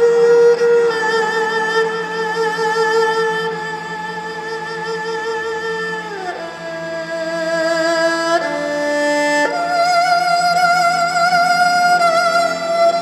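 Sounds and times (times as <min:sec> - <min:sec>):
two-string fiddle bowed notes: 0:00.0 - 0:13.0.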